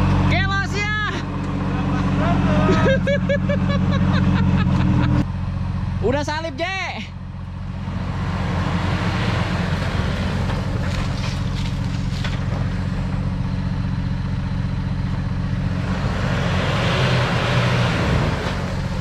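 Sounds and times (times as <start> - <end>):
off-road engine running: 0.0 - 19.0.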